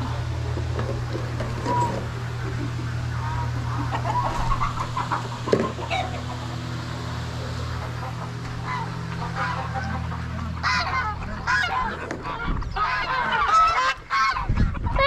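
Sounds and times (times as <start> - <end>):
geese honking: 0.0 - 15.0
steady low hum: 0.0 - 15.0.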